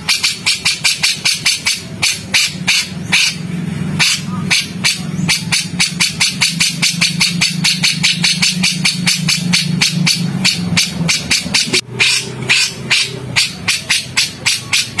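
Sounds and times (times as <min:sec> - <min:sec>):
bird harsh ticking notes: 0:00.0 - 0:15.0
steady low hum: 0:00.0 - 0:15.0.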